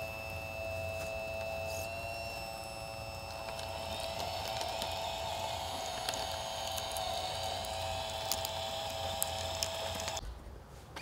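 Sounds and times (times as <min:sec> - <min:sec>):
toy bulldozer motor whining: 0:00.0 - 0:10.2.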